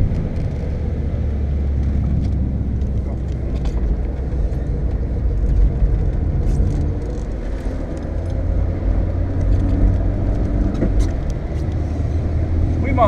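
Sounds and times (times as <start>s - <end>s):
car engine drone: 0.0s - 13.0s
tyres on wet road: 0.0s - 13.0s.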